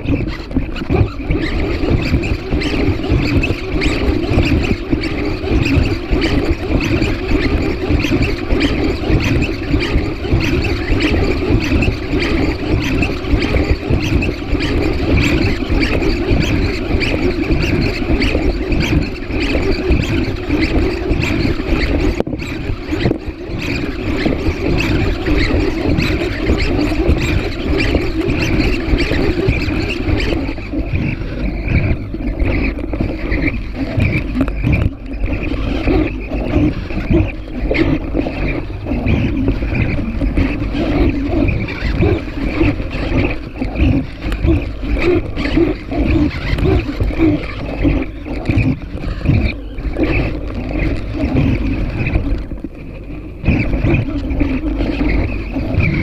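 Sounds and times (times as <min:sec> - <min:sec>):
robot servo motors whirring: 0:00.0 - 0:56.0.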